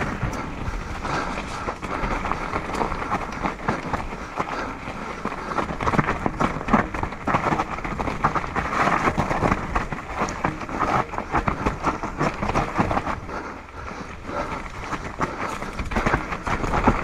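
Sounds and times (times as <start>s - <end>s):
bike rattling and knocking: 0.0s - 17.0s
bike tyres crunching on dirt: 0.0s - 17.0s.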